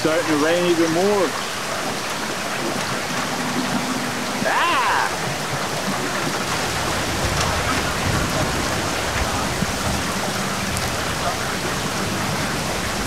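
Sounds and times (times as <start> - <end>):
heavy rain on water: 0.0 - 13.0.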